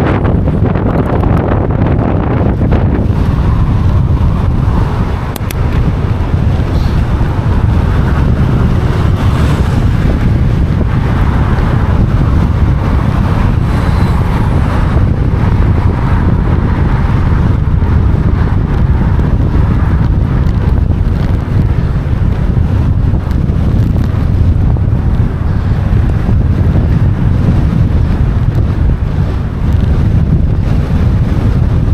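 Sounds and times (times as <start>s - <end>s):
strong wind buffeting microphone: 0.0s - 31.9s.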